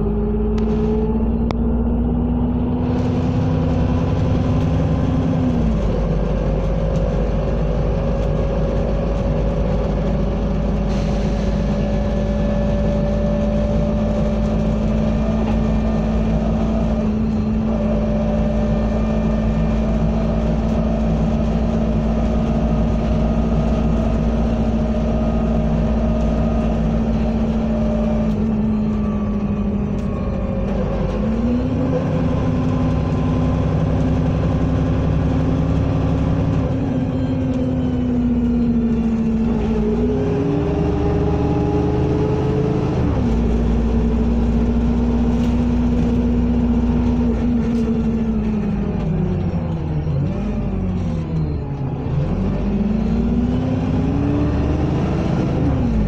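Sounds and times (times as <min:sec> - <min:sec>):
bus engine rumble: 0:00.0 - 0:56.0
drivetrain whine: 0:00.0 - 0:56.0.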